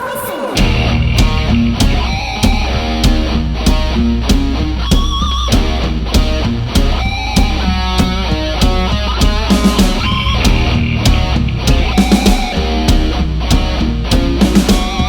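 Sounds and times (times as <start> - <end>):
drums: 0.0 - 15.0
electric guitar riff: 0.0 - 15.0
bass guitar: 0.6 - 15.0.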